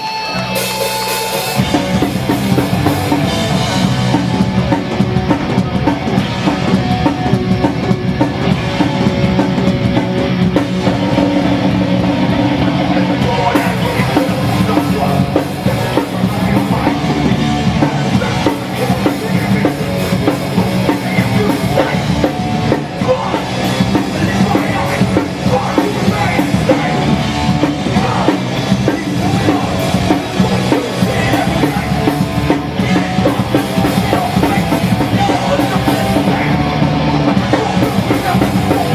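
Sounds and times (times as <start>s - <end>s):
bass guitar: 0.0s - 38.9s
distorted guitars: 0.0s - 38.9s
pounding drums: 0.6s - 38.9s.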